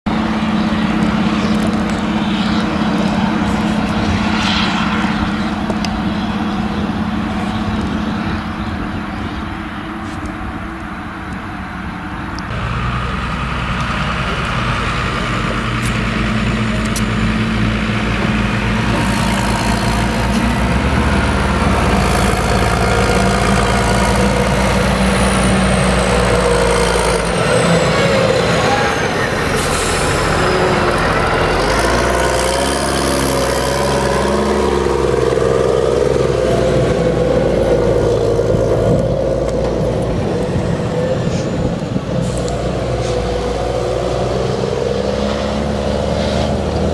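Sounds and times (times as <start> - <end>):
forage harvester running: 0.1 - 46.9
tractor engine passing: 0.1 - 46.9.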